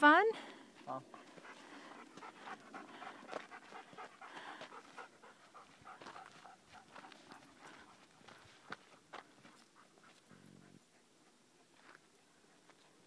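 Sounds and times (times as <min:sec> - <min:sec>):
dog panting: 0:00.8 - 0:13.0.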